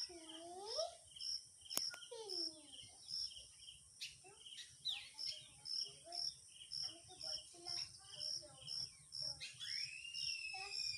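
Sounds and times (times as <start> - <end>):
crickets chirping: 0.0 - 10.9
short lower insect calls: 0.0 - 10.9.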